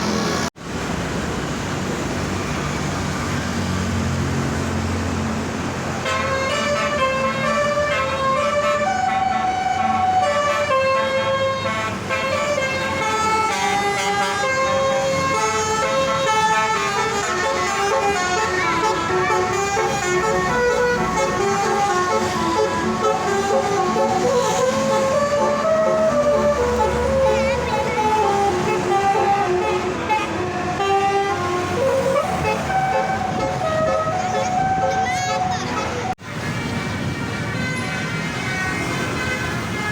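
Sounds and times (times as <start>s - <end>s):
multi-tone bus horn playing tune: 5.9s - 39.9s.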